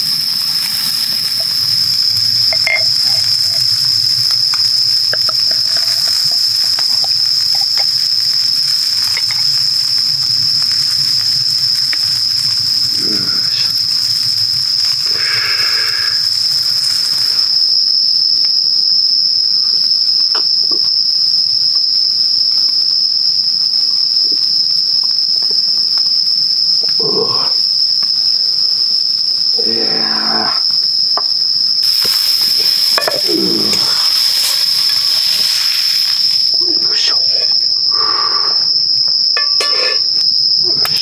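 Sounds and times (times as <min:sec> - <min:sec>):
fat sizzling in a skillet: 0:00.0 - 0:18.6, 0:19.8 - 0:41.0
night insects singing: 0:00.0 - 0:41.0.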